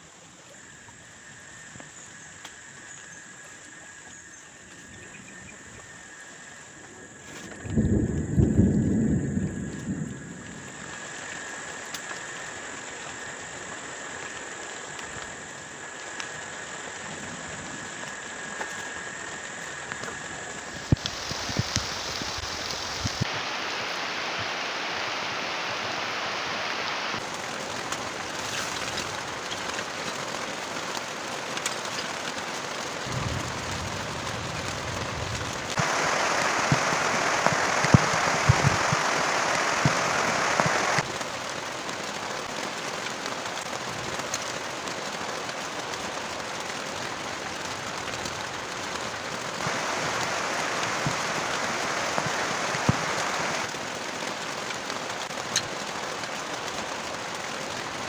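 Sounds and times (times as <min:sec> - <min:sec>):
heavy rain pouring: 0:05.5 - 0:58.0.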